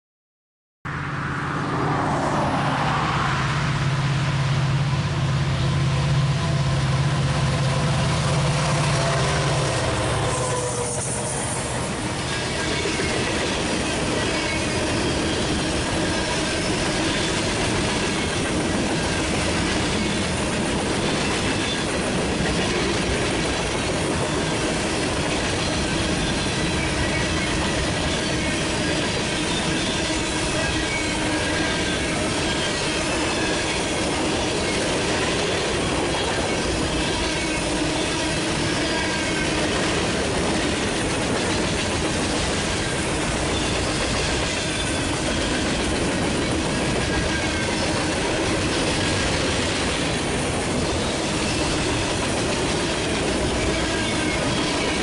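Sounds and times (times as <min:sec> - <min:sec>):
locomotive engines droning: 0:00.9 - 0:55.0
freight cars rolling on rails: 0:01.8 - 0:55.0.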